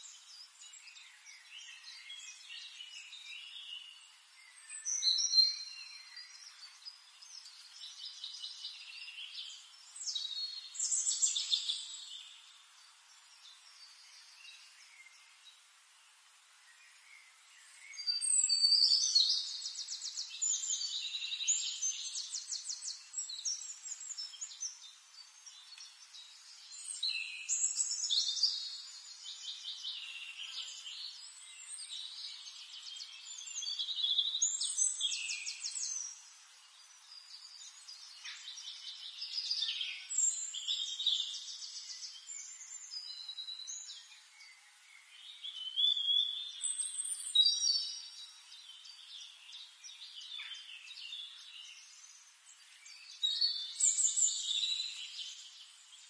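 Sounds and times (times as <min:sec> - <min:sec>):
songbird trills and whistles: 0:00.0 - 0:12.6, 0:16.8 - 0:36.3, 0:37.0 - 0:56.0.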